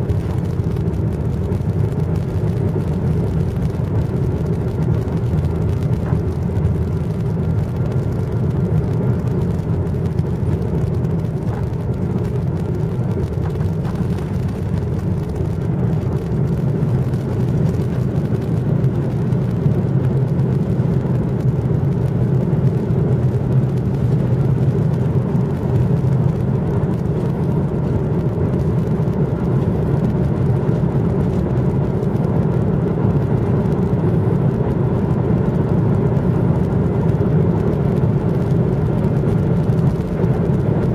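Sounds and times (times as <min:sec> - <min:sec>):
airliner cabin engine hum: 0:00.0 - 0:40.9.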